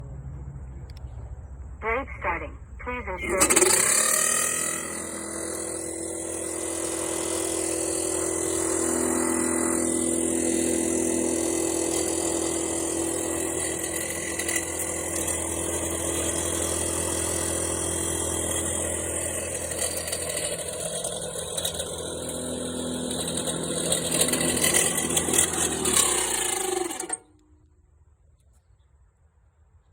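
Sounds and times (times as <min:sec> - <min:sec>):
mower blade motor whining: 0:02.9 - 0:27.7.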